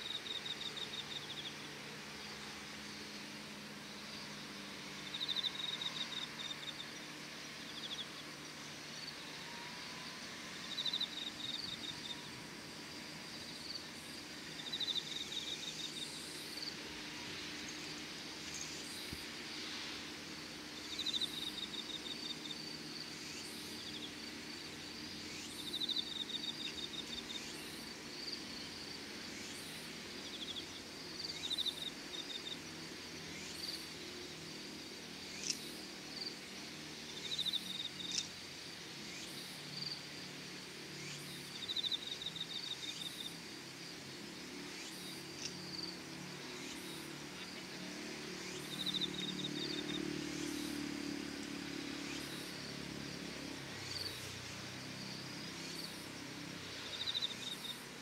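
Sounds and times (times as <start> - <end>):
crickets chirping in pulsed trills: 0.0 - 58.0
high-pitched insect hum: 0.0 - 58.0.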